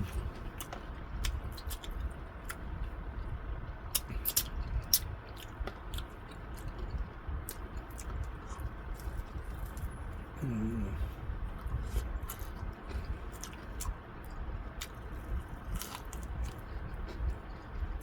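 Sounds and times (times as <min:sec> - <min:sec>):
close-up chewing food: 0:00.0 - 0:18.0.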